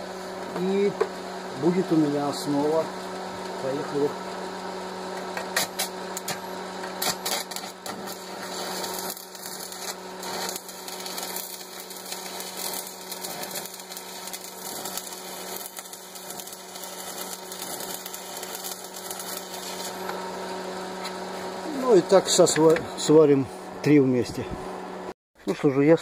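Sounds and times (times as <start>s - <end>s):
arc welding crackling buzz: 0.0s - 25.1s.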